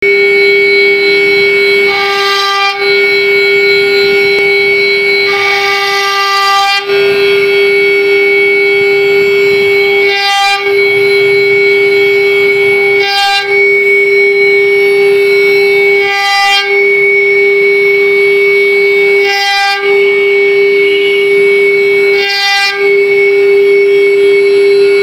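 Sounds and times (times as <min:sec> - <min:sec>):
router spindle high whine: 0:00.0 - 0:25.0.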